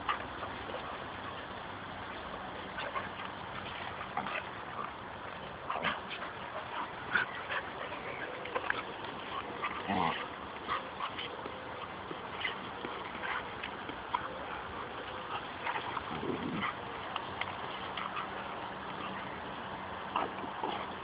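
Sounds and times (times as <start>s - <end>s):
dogs scuffling: 0.0s - 21.0s.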